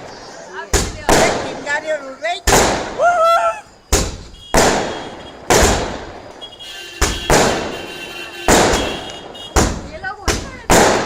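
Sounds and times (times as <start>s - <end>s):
fireworks bangs: 0.7s - 11.0s.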